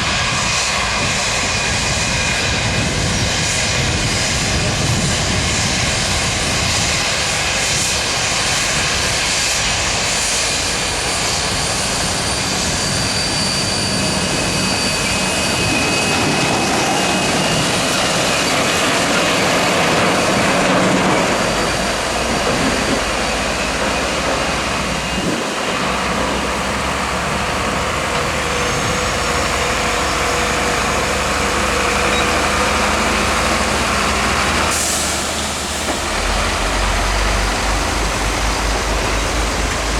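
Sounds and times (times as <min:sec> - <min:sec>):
airplane engines roaring: 0:00.0 - 0:39.9.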